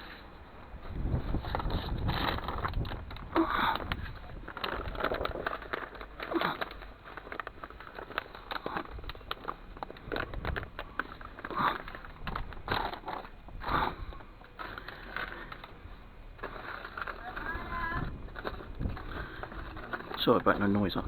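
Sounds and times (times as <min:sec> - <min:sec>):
gritty scraping of stirred mix: 0:01.0 - 0:21.0.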